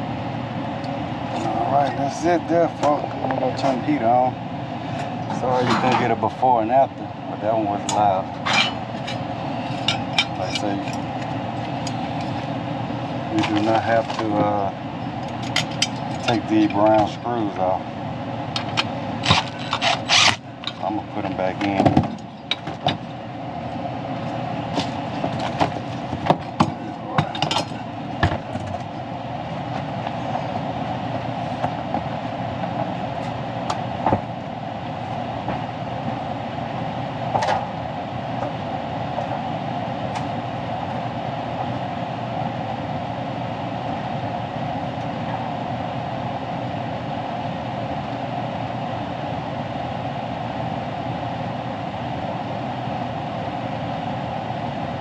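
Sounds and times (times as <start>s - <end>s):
furnace fan motor humming: 0.0s - 55.0s.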